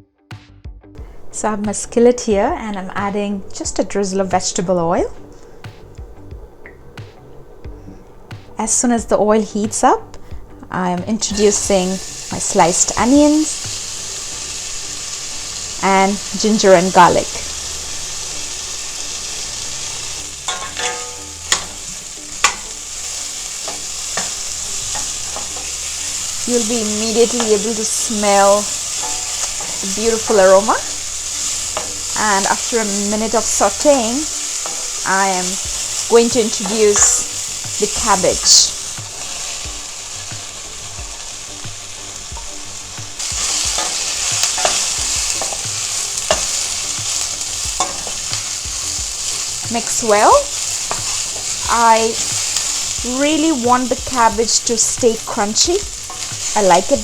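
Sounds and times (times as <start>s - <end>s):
vegetables sizzling in oil: 1.0s - 57.0s
utensil stirring and knocking pan: 10.3s - 57.0s.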